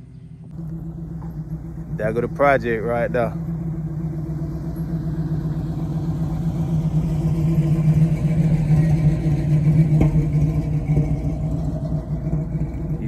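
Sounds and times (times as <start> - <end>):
car engine driving: 0.0 - 13.0.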